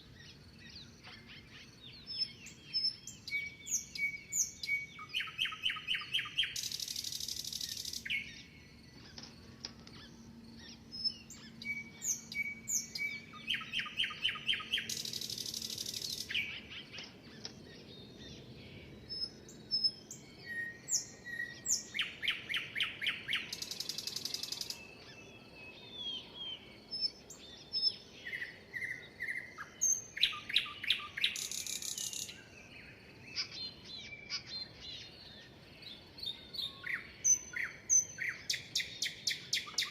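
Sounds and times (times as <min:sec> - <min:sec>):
songbird repeating buzzy trill song: 0:00.0 - 0:39.9
birds chirping and whistling: 0:00.3 - 0:39.9.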